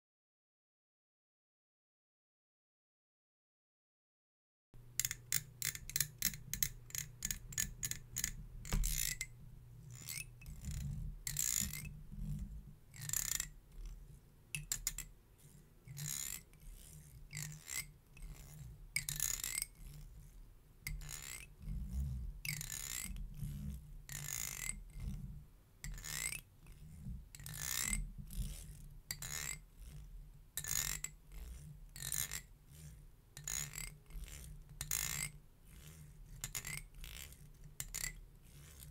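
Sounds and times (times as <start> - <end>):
comb teeth scratching: 5.0 - 25.2, 25.9 - 38.9.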